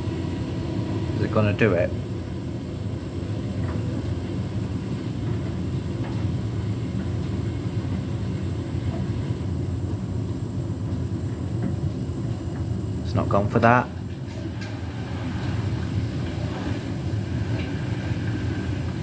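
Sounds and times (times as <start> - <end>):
washing machine drum rumbling: 2.4 - 19.0.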